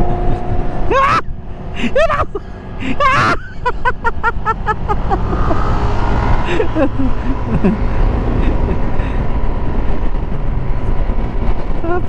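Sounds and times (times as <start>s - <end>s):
motorcycle engine and wind: 0.0s - 12.0s.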